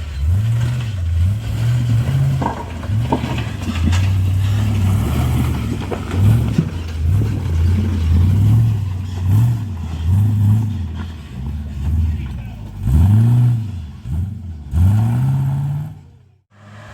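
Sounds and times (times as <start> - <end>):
engine revving: 0.0 - 16.9.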